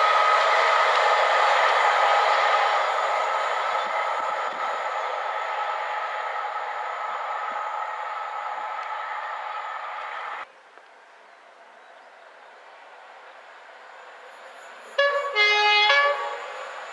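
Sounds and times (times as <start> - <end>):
train passing on rails: 0.0 - 16.9.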